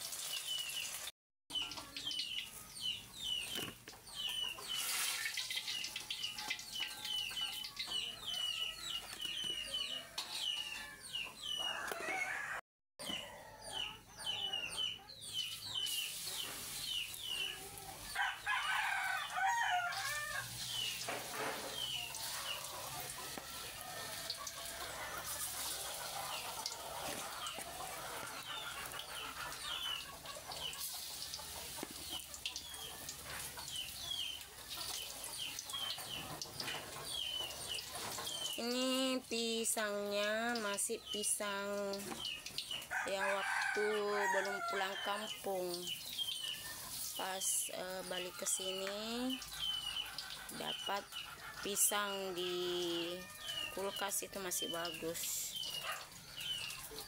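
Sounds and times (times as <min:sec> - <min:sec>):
chicks peeping: 0:01.5 - 0:18.4, 0:19.9 - 0:43.8, 0:44.4 - 0:57.0
chickens clucking: 0:01.5 - 0:19.1, 0:19.7 - 0:57.0.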